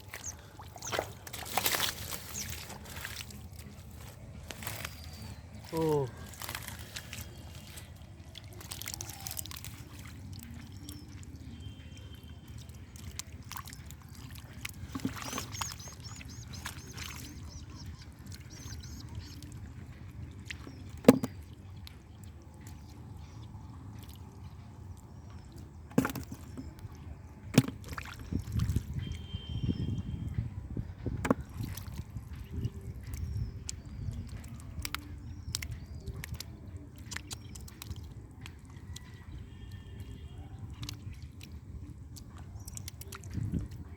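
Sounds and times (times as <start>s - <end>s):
muddy water sloshing: 0.0s - 43.9s.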